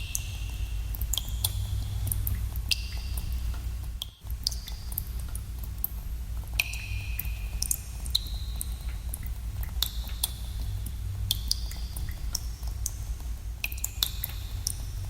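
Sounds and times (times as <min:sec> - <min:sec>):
water drops plinking in cave: 0:00.0 - 0:05.9, 0:06.5 - 0:15.0
steady low rumble: 0:00.0 - 0:15.0.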